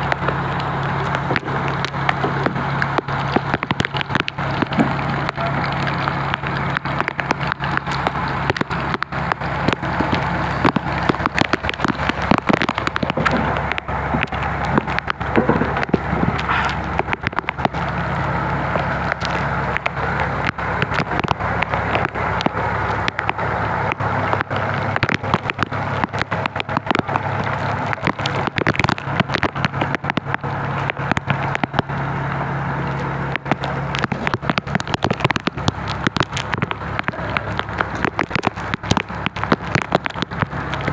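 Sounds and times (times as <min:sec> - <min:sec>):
heavy rain falling: 0:00.0 - 0:40.9
low engine hum: 0:00.0 - 0:40.9.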